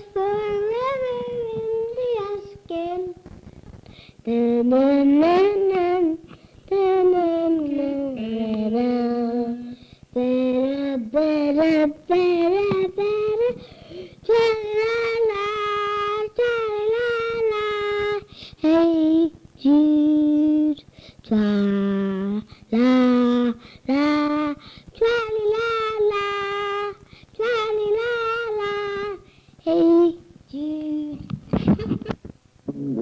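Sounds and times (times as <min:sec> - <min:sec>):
boy singing: 0:00.0 - 0:03.3, 0:04.2 - 0:31.3.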